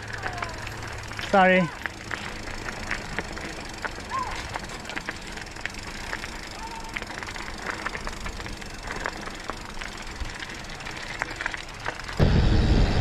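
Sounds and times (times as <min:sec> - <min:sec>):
bike clicks and rattles: 0:00.0 - 0:12.2
bike tyres crunching on gravel: 0:00.0 - 0:12.2.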